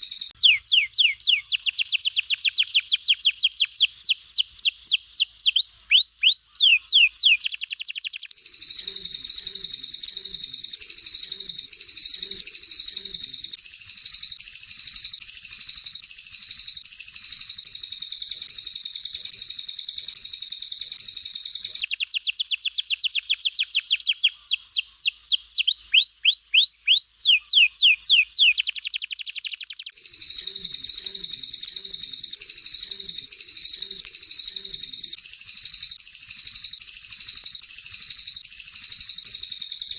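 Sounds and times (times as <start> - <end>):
dense high buzzing bird trill: 0.0 - 39.9
falling high whistled birdsong: 0.0 - 39.9.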